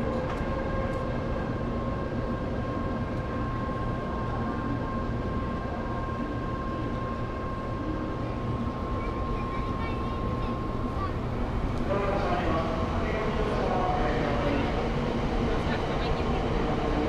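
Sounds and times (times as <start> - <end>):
train hum and rumble: 0.0 - 17.0.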